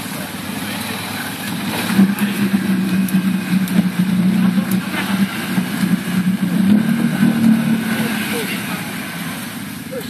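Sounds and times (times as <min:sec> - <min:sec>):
quad bike engine revving: 0:00.6 - 0:10.0.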